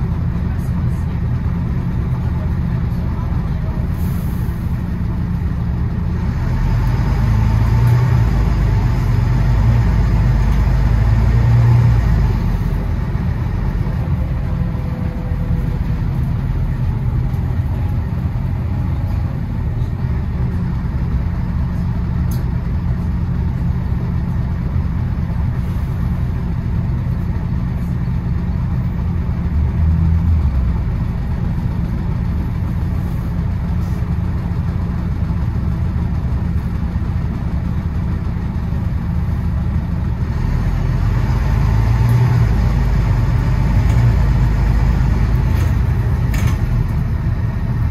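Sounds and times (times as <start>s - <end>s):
bus engine humming: 0.0s - 47.9s.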